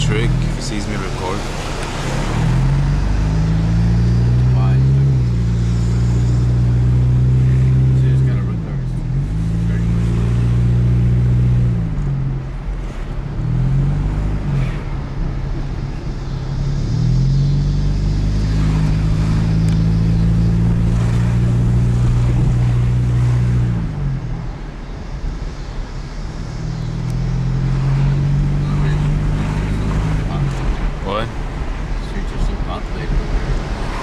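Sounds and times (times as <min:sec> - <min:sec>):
car engine hum: 0:00.0 - 0:34.0
road noise inside car: 0:00.0 - 0:34.0.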